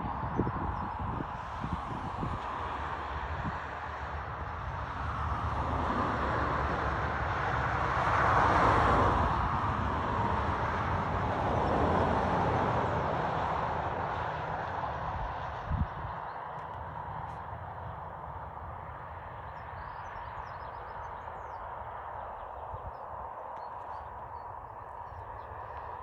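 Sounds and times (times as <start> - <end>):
distant vehicle passing: 1.6 - 26.0.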